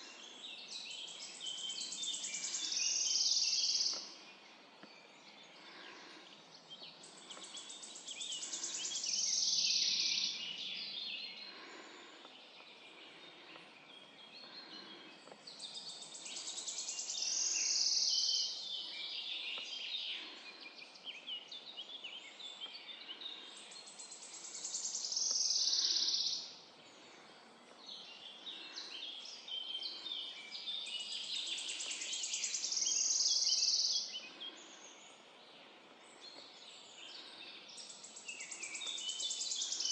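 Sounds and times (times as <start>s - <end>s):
faint chirps of other birds: 0.0s - 39.9s.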